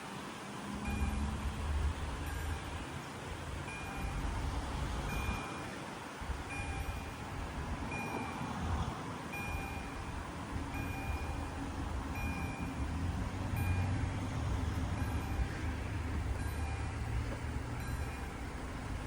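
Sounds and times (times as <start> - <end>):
level crossing warning dings: 0.7 - 8.5, 9.2 - 19.0.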